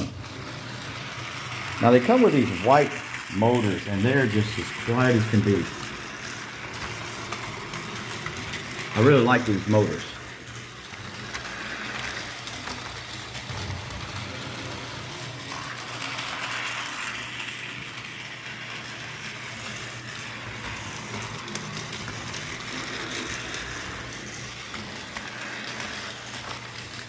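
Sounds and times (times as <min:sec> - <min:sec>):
small wheels rattling on track: 0:00.0 - 0:27.0
toy train motor whirring: 0:00.0 - 0:27.0.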